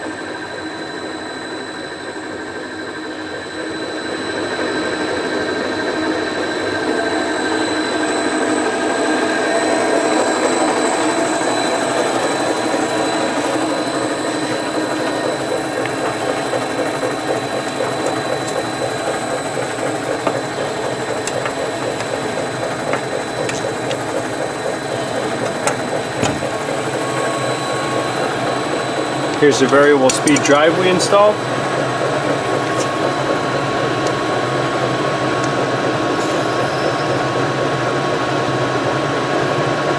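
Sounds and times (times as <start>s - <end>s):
mixer running with hum and whine: 0.0s - 39.9s.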